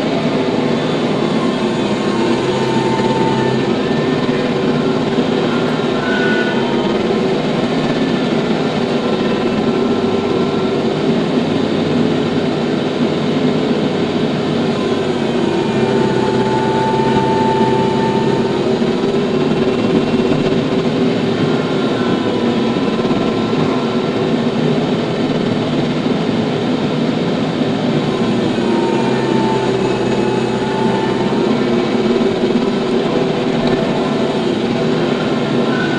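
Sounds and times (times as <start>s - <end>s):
faint whine: 0.0s - 35.9s
tractor engine running: 0.0s - 35.9s.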